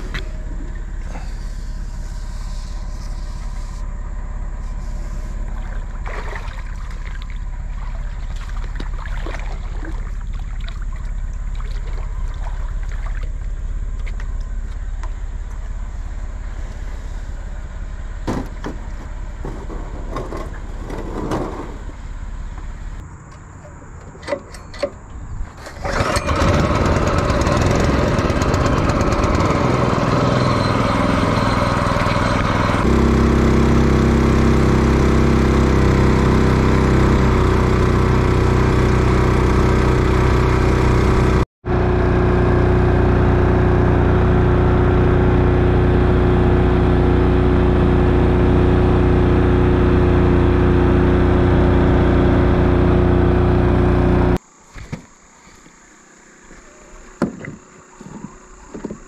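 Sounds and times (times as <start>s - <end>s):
outboard motor running: 0.0s - 23.0s, 25.8s - 54.4s.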